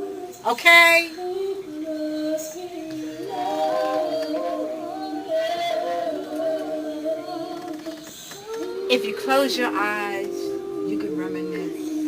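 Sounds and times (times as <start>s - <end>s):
woman singing slow song: 0.0s - 12.0s.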